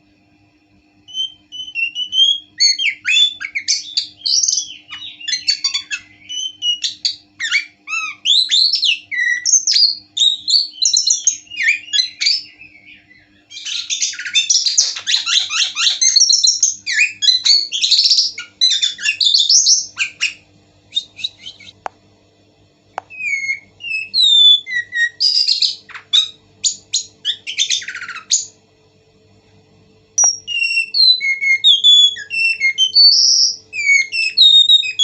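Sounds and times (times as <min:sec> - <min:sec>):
thrush singing chattering and whistles: 0:01.1 - 0:21.8, 0:23.1 - 0:28.6, 0:30.2 - 0:35.0.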